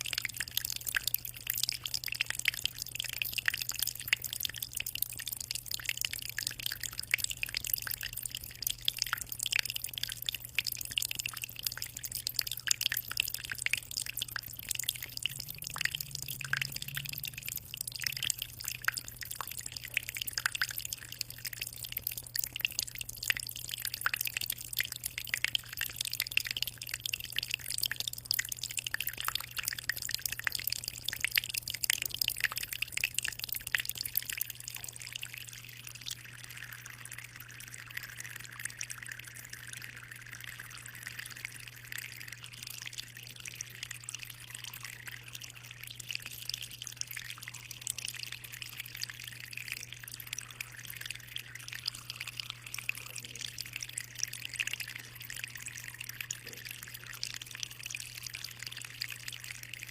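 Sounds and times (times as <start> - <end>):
aquarium water trickling and splashing: 0.0 - 59.9.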